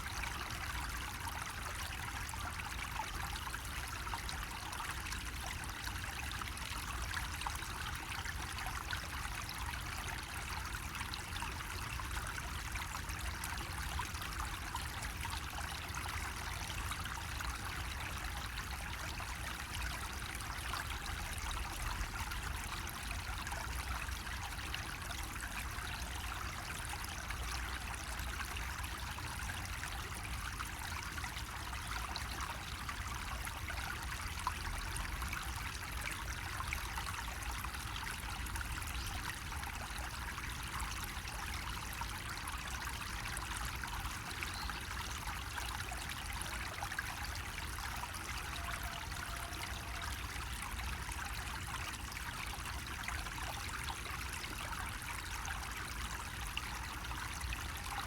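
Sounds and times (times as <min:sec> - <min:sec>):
water trickling from spout: 0:00.0 - 0:58.0.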